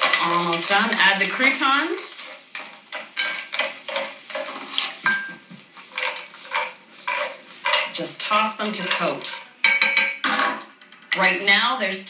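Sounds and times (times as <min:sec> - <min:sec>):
croutons clattering in a pan: 0:00.0 - 0:11.5.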